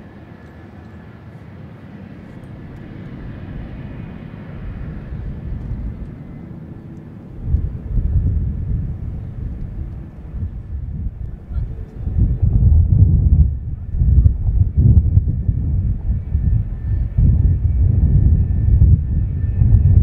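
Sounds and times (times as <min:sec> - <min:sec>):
jet engine noise: 0:00.0 - 0:20.0
heavy low rumble: 0:02.2 - 0:20.0.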